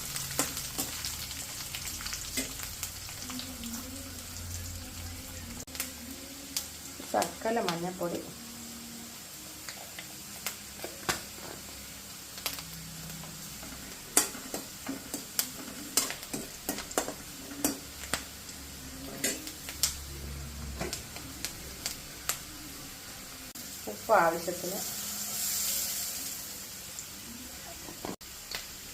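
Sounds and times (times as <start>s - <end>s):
food sizzling in oil: 0.0s - 28.9s.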